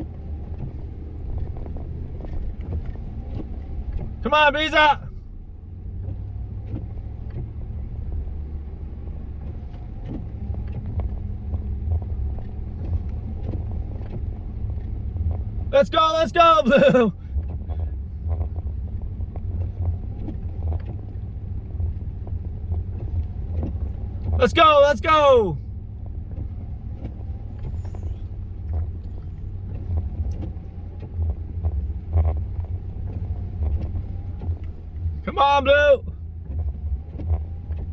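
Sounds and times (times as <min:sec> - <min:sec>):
truck engine droning: 0:01.2 - 0:10.8, 0:11.4 - 0:37.9.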